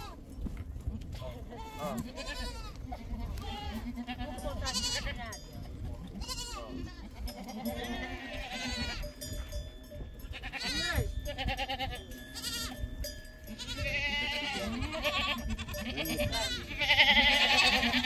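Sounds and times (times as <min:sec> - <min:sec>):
goats bleating: 0:01.4 - 0:05.4, 0:06.1 - 0:09.3, 0:10.2 - 0:12.8, 0:13.5 - 0:18.0.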